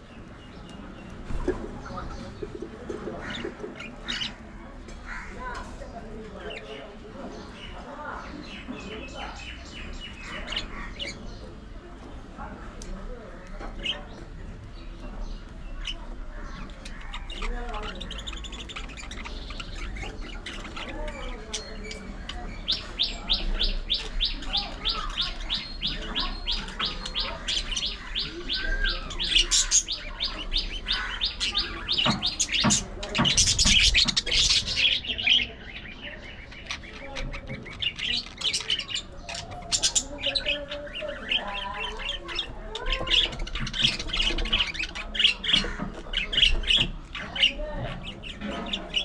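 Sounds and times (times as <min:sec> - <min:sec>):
budgerigars chattering: 0:00.1 - 0:11.7, 0:13.6 - 0:49.0.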